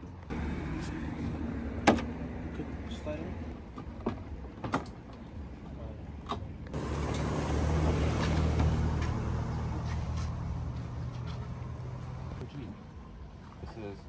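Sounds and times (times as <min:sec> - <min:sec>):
car engine hum: 0:00.0 - 0:12.4
road noise: 0:00.0 - 0:14.0.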